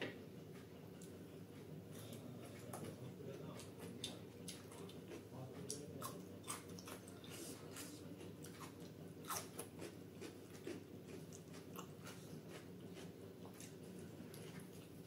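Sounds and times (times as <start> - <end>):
chewing crunchy cucumber: 2.0 - 15.0.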